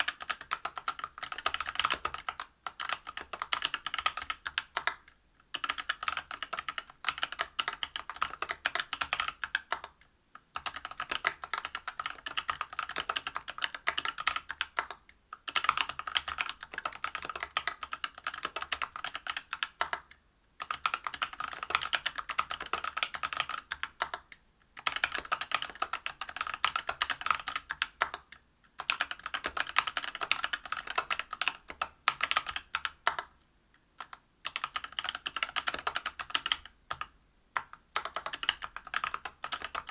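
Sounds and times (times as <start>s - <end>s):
mechanical keyboard typing clacks: 0.0s - 10.0s, 10.6s - 33.3s, 34.0s - 39.9s.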